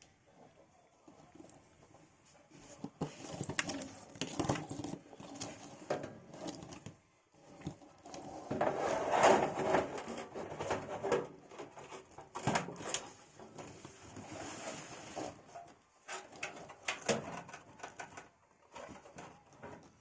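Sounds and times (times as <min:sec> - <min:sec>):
rustling: 0:00.0 - 0:20.0.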